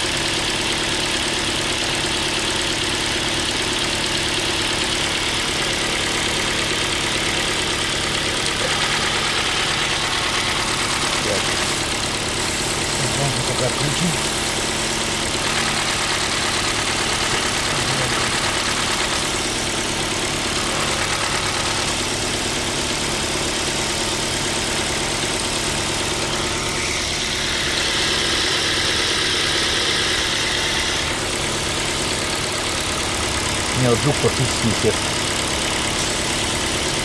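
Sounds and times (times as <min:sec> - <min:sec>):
car engine idling: 0:00.0 - 0:37.0
engine knocking: 0:00.0 - 0:37.0.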